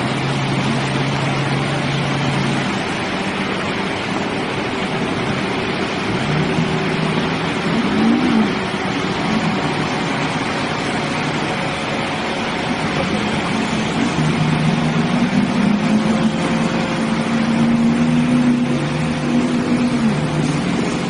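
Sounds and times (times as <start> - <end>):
broad rushing noise: 0.0 - 21.0
heavy truck engine running: 0.0 - 21.0.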